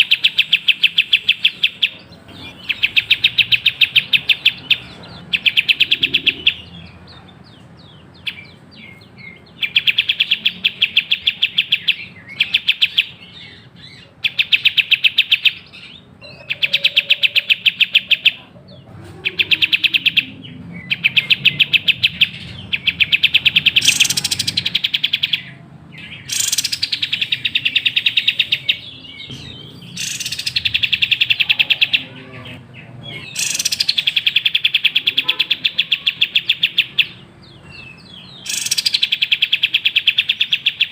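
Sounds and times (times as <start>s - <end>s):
bird rapid trilling: 0.0s - 7.1s, 8.2s - 40.9s.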